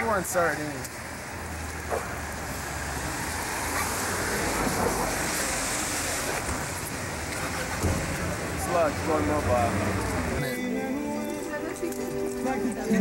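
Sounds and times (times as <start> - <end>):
street traffic hiss: 0.0 - 13.0.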